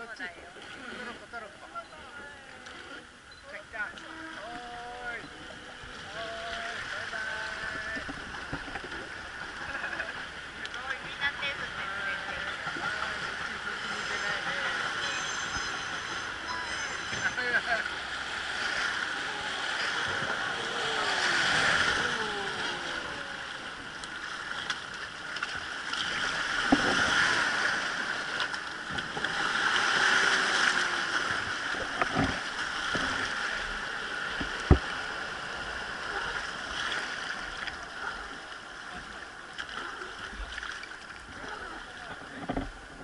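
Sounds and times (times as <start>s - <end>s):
oar splashing: 0.0s - 43.0s
river water rushing past boat: 2.9s - 43.0s.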